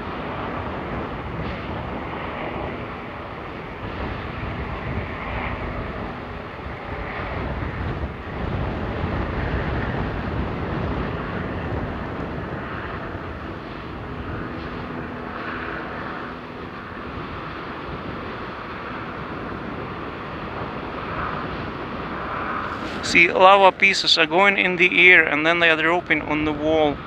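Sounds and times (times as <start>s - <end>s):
lava fountain roaring: 0.0s - 27.0s.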